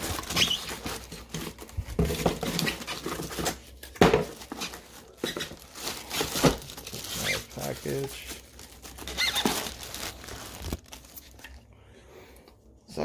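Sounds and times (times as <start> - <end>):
packaging rustling and crinkling: 0.0 - 11.6.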